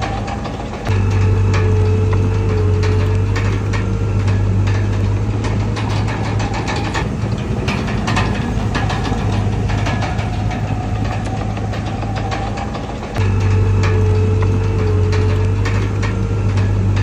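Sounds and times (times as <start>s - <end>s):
bulldozer diesel engine droning: 0.0s - 17.0s
metallic clanks and rattles: 0.0s - 17.0s.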